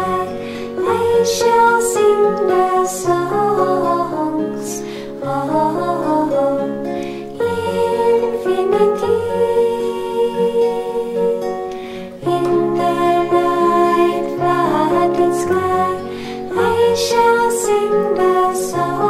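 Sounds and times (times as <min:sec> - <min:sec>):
women singing devotional song: 0:00.0 - 0:11.6, 0:12.2 - 0:19.0.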